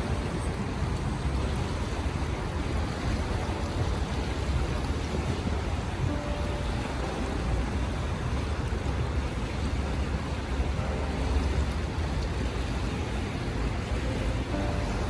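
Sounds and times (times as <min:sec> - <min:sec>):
waves rushing: 0:00.0 - 0:15.0
wind buffeting microphone: 0:00.0 - 0:15.0.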